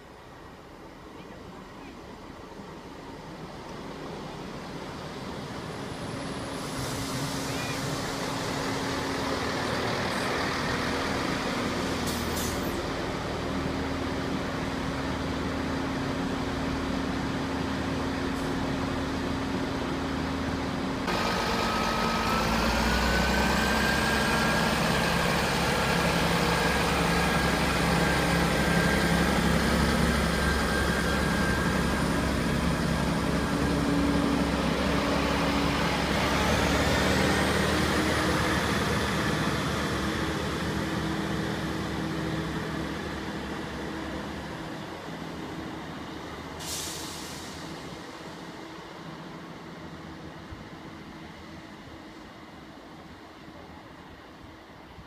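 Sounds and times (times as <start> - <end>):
diesel train engine hum: 0.0 - 55.0
passing train whine: 0.0 - 55.0.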